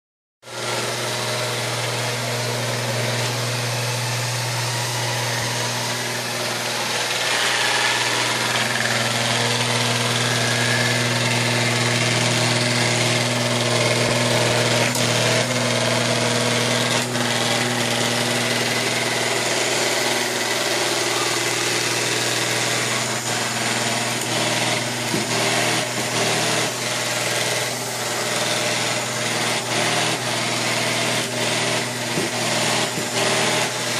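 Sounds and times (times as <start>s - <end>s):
robot vacuum running: 0.5s - 33.9s.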